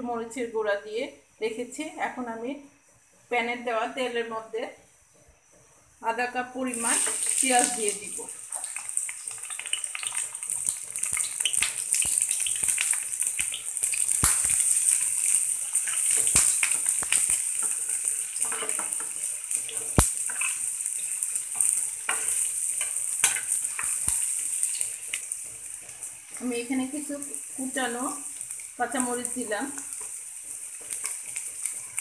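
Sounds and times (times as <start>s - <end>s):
onions sizzling in oil: 0.0s - 32.0s.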